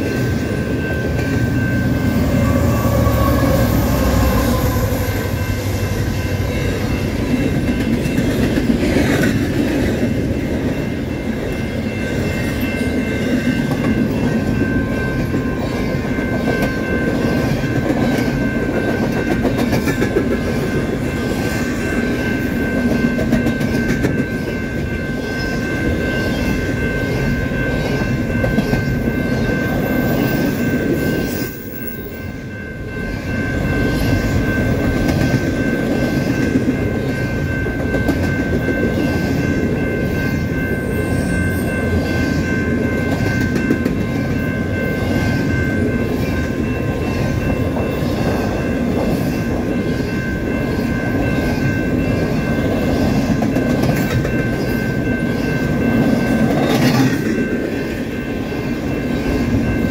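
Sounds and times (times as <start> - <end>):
electronic crossing bell: 0.0 - 59.9
train rumbling past: 0.0 - 59.9.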